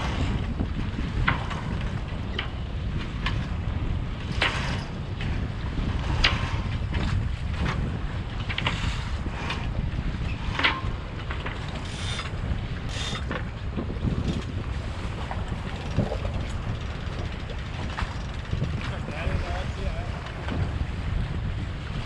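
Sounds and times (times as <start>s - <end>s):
sail rigging clicks and rattles: 0.0s - 22.0s
wind buffeting microphone: 0.0s - 22.0s.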